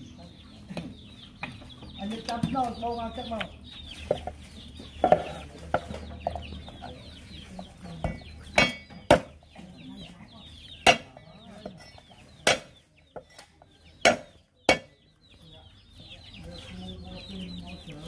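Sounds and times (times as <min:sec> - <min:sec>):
chickens clucking and cheeping: 0:00.0 - 0:18.0.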